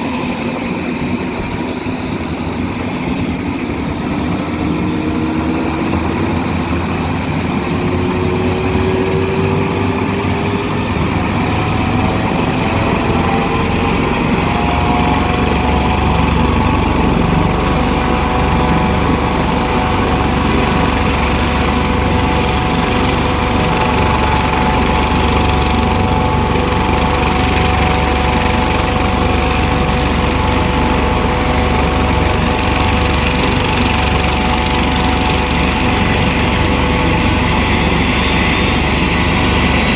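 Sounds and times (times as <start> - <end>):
turbine engine whine rising: 0.0 - 39.9
low engine rumble: 3.8 - 39.9.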